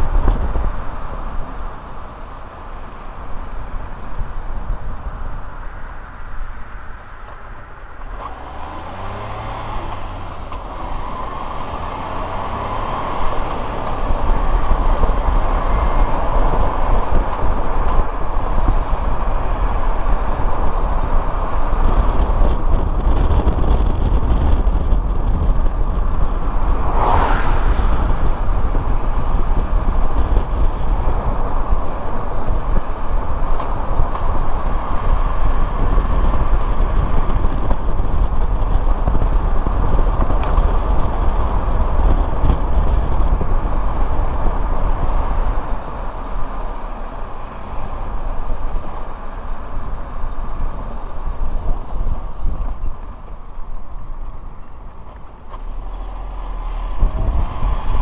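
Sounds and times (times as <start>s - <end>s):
car engine rumbling: 0.0s - 58.0s.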